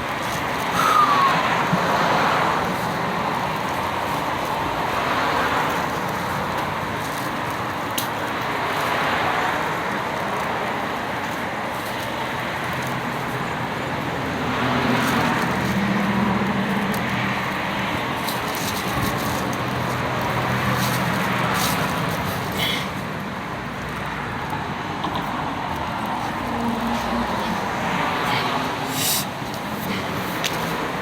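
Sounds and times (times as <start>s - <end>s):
vehicles passing by: 0.0s - 31.0s.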